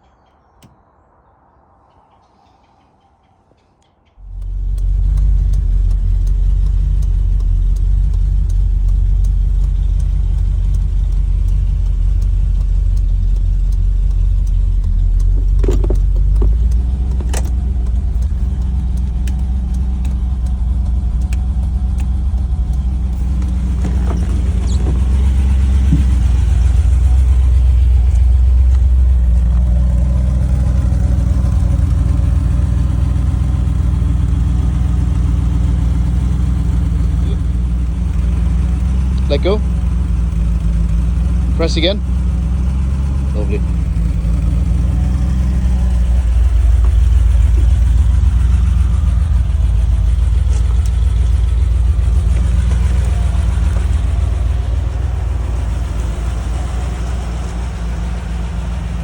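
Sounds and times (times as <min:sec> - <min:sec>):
sharp clicks: 0:04.2 - 0:58.2
car engine running: 0:04.2 - 0:59.0.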